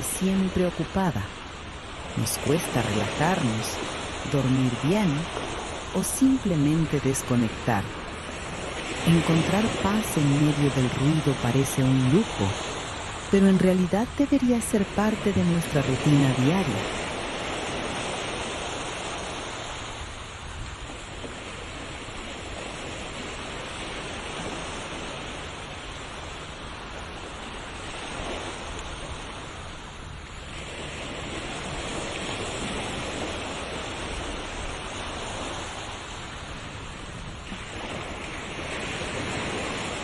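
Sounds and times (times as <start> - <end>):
ocean waves washing onto shore: 0.0 - 40.0.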